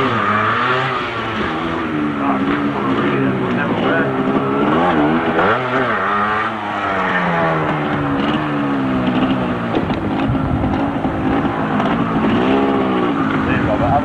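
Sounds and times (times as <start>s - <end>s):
motorcycle engine passing: 0.0s - 14.0s.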